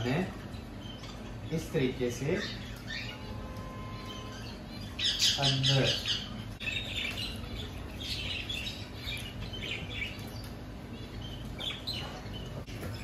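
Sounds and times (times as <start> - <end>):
low steady hum: 0.0 - 13.0
pet birds chirping: 0.0 - 13.0.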